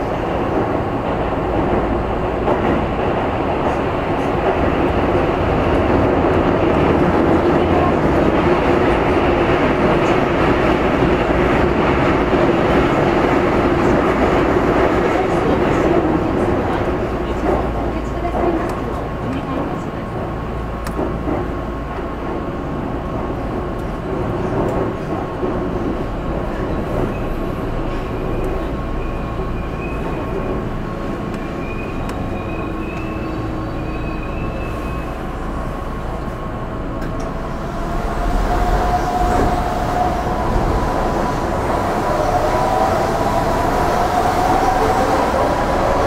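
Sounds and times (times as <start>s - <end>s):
electric train running in tunnel: 0.0s - 46.0s.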